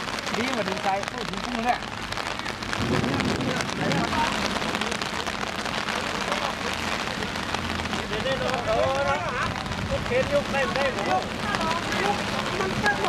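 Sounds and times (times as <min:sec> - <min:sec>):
steady rain falling: 0:00.0 - 0:13.0
faint voices: 0:00.1 - 0:13.0.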